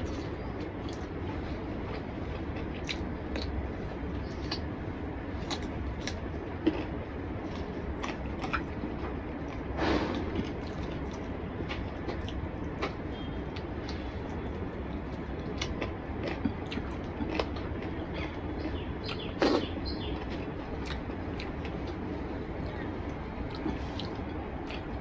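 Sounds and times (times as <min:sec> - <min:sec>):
man chewing with wet mouth sounds: 0:00.0 - 0:25.0.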